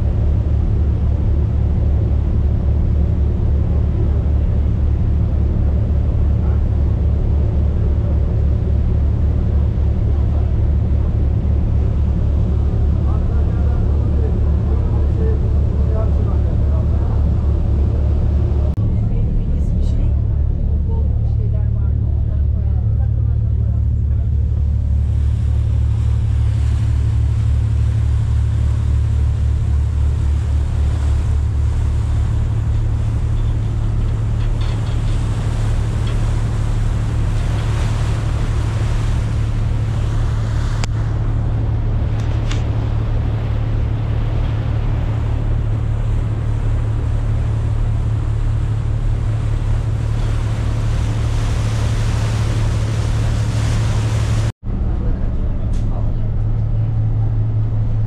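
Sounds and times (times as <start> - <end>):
ferry engine drone: 0.0 - 58.0
rush of wind and water: 0.0 - 58.0.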